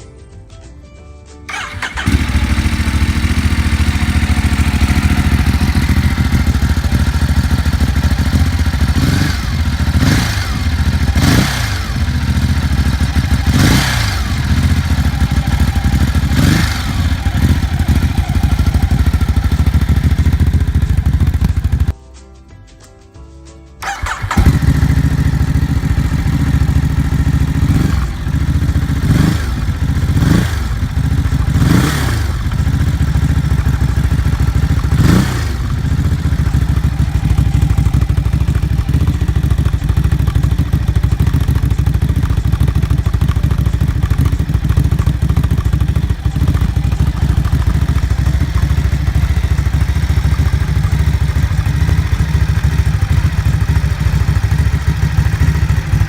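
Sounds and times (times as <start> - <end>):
motorcycle engine idling: 1.5 - 21.9, 23.8 - 56.0.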